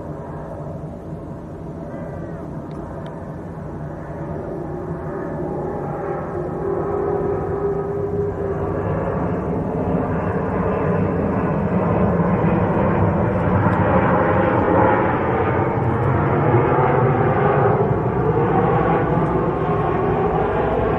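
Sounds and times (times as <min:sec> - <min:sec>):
airliner jet engines rushing: 0:00.0 - 0:20.9.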